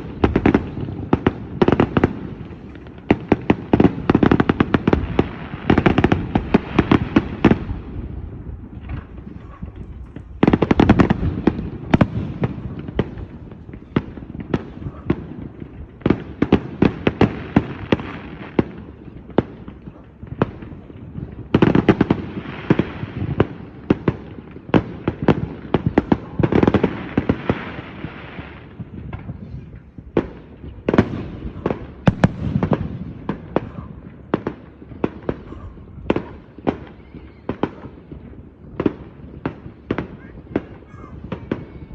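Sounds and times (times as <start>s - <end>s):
fireworks booming: 0.0s - 41.9s
fireworks crackling: 0.0s - 41.9s.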